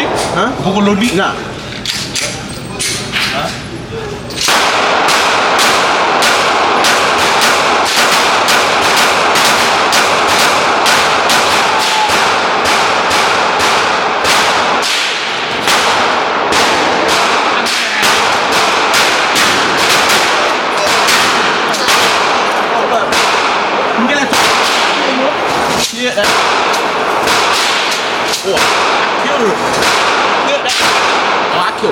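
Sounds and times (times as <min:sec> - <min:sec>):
rapid gunfire: 0:04.4 - 0:31.9.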